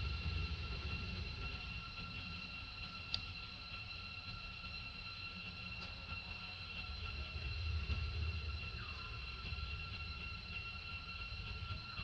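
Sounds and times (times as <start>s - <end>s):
steady high-pitched drone: 0.0s - 12.0s.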